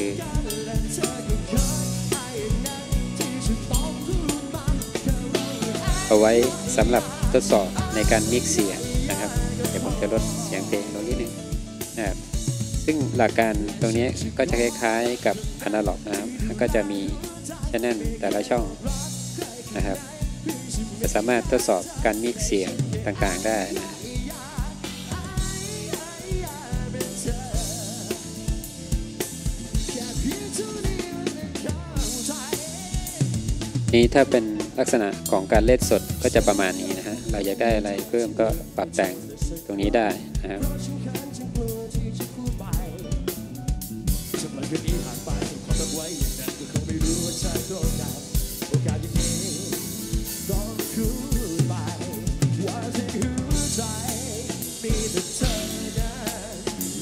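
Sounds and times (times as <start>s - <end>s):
person singing with vibrato: 0.0s - 12.4s, 13.1s - 28.8s, 29.5s - 33.5s, 36.3s - 43.6s, 44.4s - 57.0s
bass and band instruments: 0.0s - 57.0s
drum kit beat: 0.0s - 57.0s.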